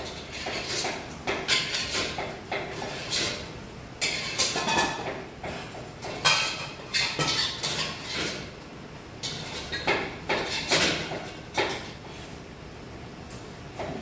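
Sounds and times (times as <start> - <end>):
kitchen knocks and clatter: 0.0 - 8.6, 9.2 - 12.0, 13.8 - 14.0.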